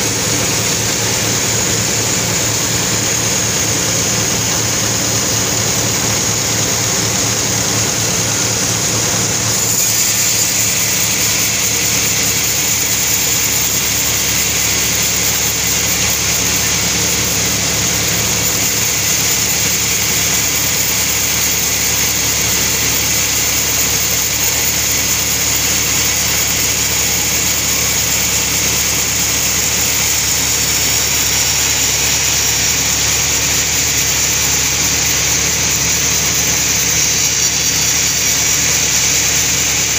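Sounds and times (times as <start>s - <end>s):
sawmill saw and engine running: 0.0s - 39.9s.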